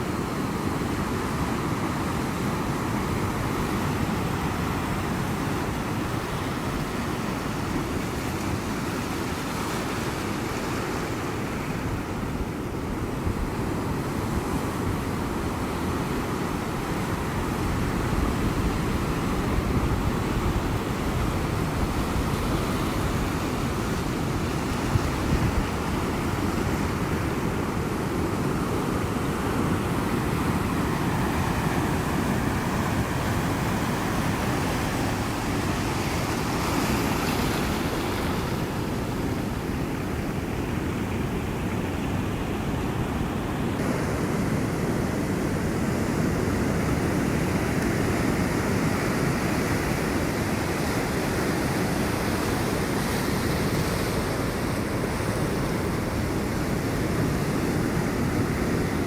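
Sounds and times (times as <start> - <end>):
waves breaking: 0.0 - 59.0.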